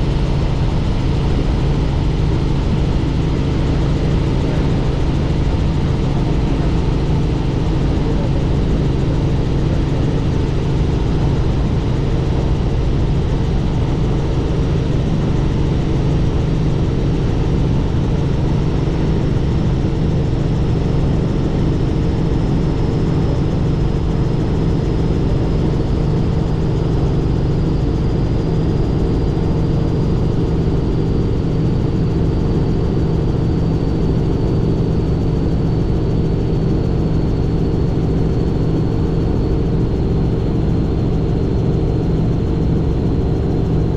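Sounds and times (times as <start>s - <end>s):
helicopter rotor and engine noise: 0.0s - 43.9s.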